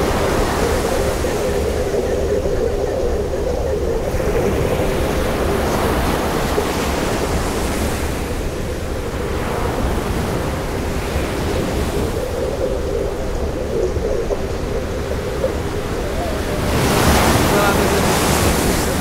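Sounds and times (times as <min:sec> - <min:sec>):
ocean surf washing on beach: 0:00.0 - 0:19.0.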